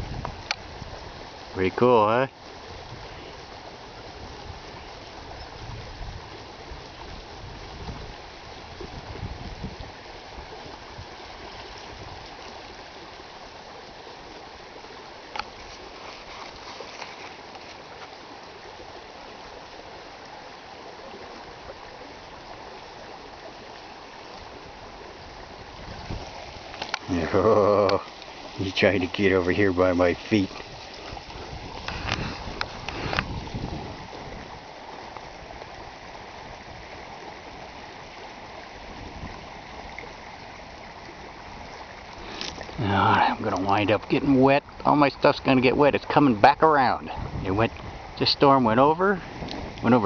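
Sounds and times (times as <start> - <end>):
rush of floodwater: 0.0 - 50.0.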